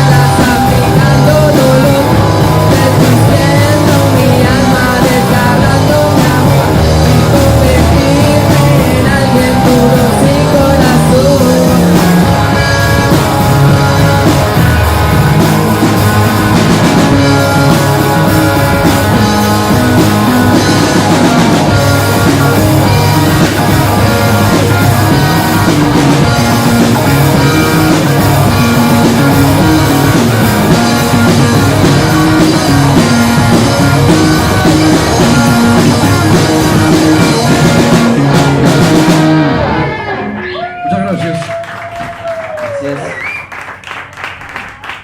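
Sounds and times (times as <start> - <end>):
rock band playing live: 0.0 - 45.0.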